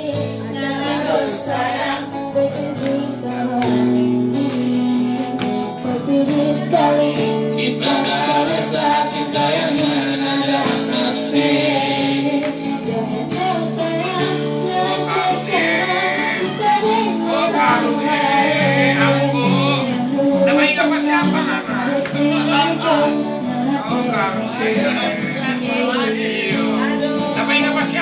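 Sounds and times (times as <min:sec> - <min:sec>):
backing music with steady beat: 0:00.0 - 0:28.0
man singing into microphone: 0:00.0 - 0:28.0.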